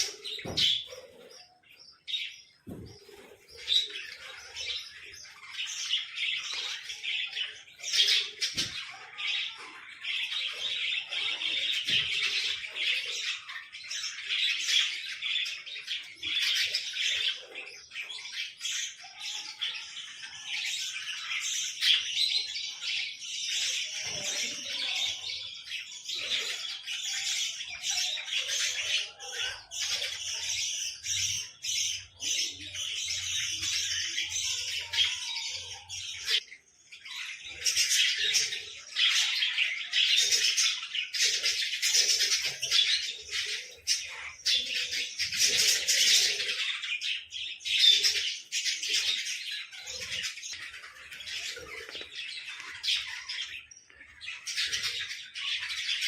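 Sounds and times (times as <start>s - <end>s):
small birds chirping and chattering: 0.0s - 56.0s.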